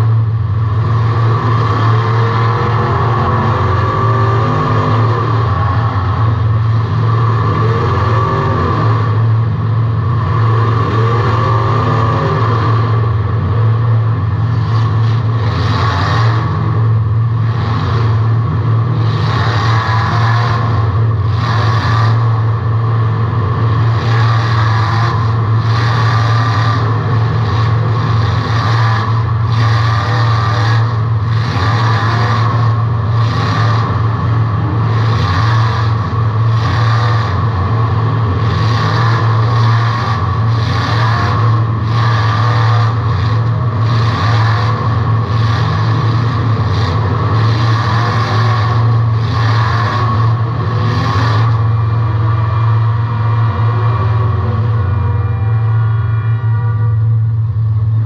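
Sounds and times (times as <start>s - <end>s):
car engine running inside car: 0.0s - 58.0s.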